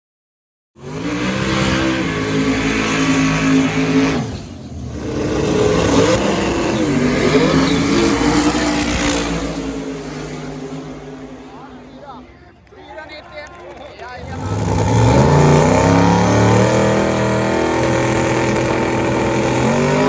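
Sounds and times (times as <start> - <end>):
race car engine revving: 0.8 - 12.3, 13.8 - 20.0.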